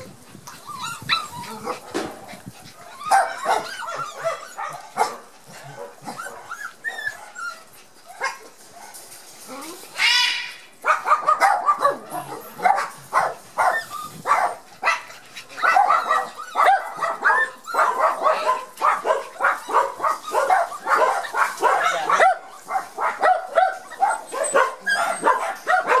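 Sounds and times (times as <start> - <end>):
puppies yipping and whining: 0.0 - 26.0.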